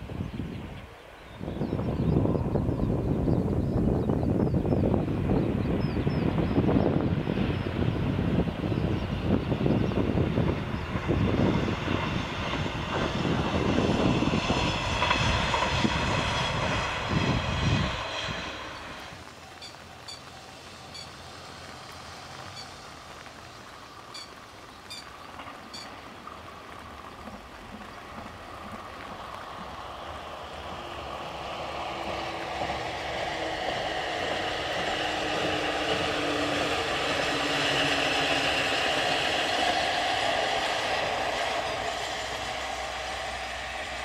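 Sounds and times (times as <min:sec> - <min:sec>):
diesel railcar engine: 0:00.0 - 0:44.0
train wheels on rails: 0:07.2 - 0:44.0.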